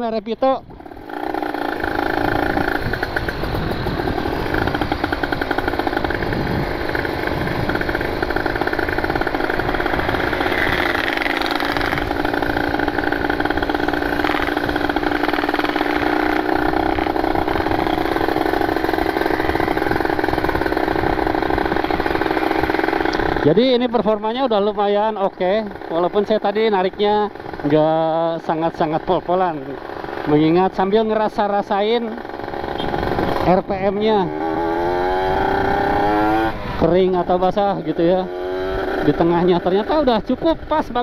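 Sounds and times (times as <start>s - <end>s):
two-stroke motorcycle engine revving: 0.0s - 41.0s.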